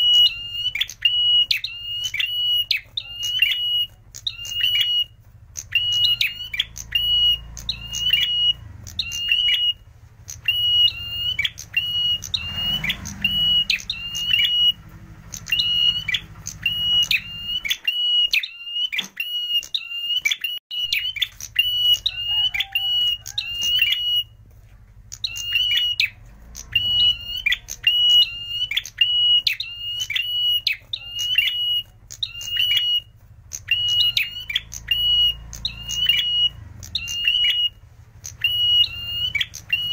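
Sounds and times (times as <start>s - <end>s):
bird sharp chip calls: 0.0s - 24.4s, 25.1s - 39.9s.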